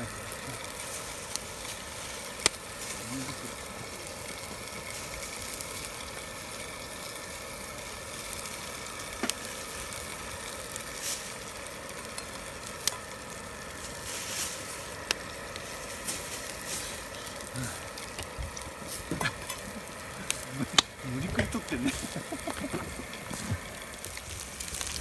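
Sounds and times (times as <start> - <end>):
food sizzling on a griddle: 0.0 - 25.0.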